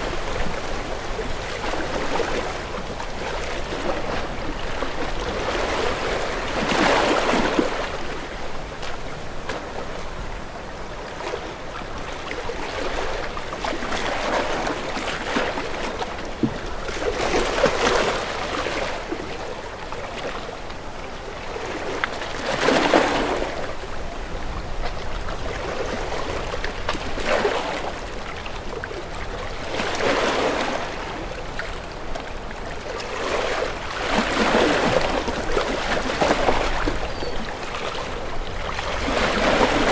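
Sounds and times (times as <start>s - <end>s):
sea waves washing and lapping: 0.0s - 39.9s.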